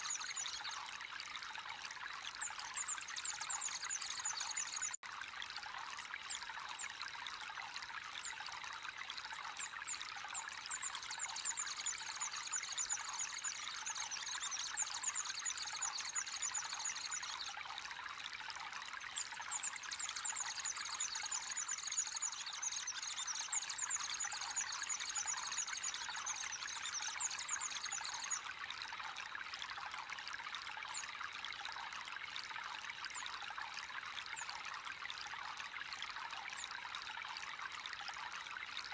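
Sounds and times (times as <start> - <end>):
water pouring into pond: 0.0 - 38.9.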